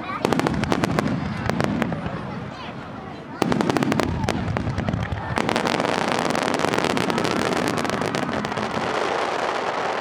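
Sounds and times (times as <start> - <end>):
fireworks bangs and crackle: 0.0 - 10.0.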